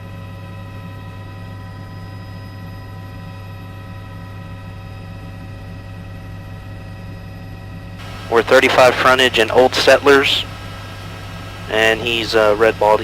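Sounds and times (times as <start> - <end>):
helicopter drone from inside: 0.0 - 13.0.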